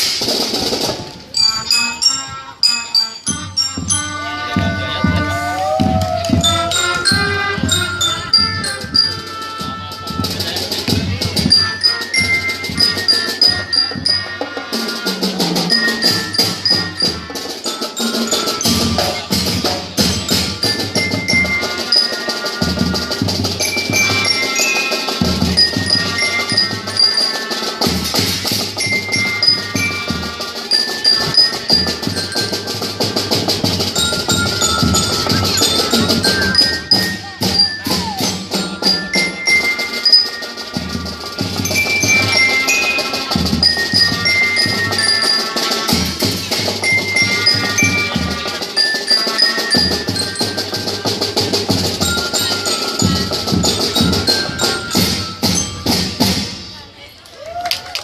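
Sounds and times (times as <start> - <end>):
drums striking: 0.0 - 1.4, 3.3 - 57.0
marching band playing: 0.0 - 57.2
glockenspiel ringing high notes: 1.3 - 5.4, 6.2 - 10.4, 11.4 - 56.6.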